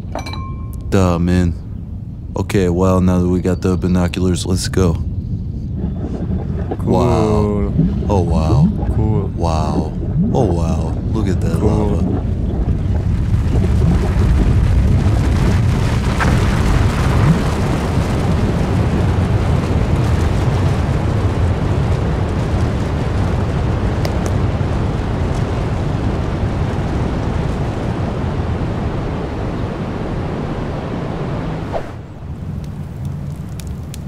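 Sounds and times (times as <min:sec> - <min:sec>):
deep volcanic rumbling: 0:00.8 - 0:34.0.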